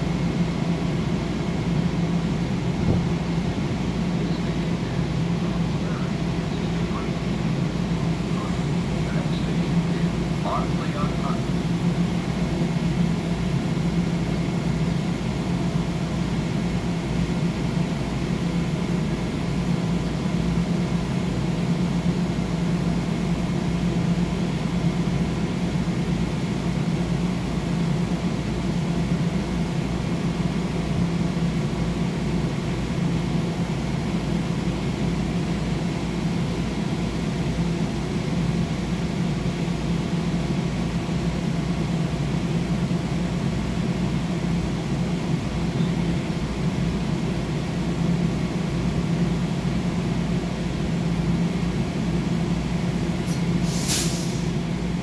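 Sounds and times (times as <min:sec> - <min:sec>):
faint steady whines: 0:00.0 - 0:53.6
train ventilation hum: 0:00.0 - 0:55.0.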